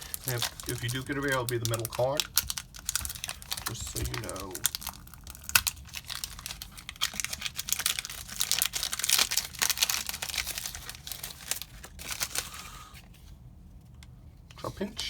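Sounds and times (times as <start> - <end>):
wrapper crinkling and tearing: 0.0 - 12.8.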